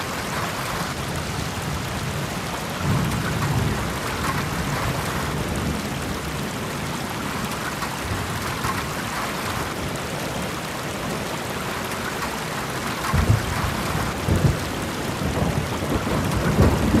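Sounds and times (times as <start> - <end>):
thunder rumbles: 0.0 - 10.5, 11.1 - 17.0
rain hiss: 0.0 - 17.0.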